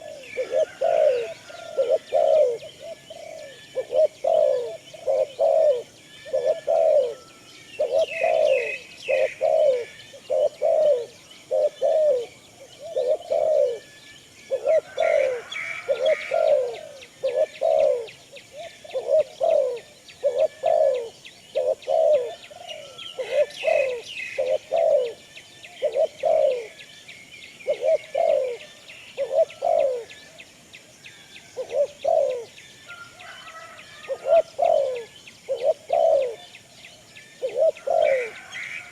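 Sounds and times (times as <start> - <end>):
doves cooing: 0.0 - 25.2, 25.8 - 26.8, 27.6 - 30.2, 31.6 - 36.5, 37.4 - 38.9
small birds chirping: 0.0 - 38.9.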